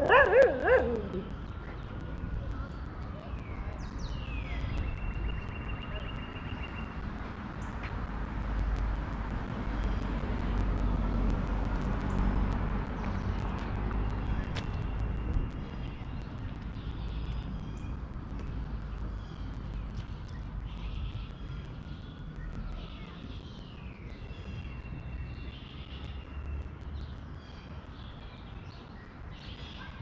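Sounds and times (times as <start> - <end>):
street rumble: 0.0 - 30.0.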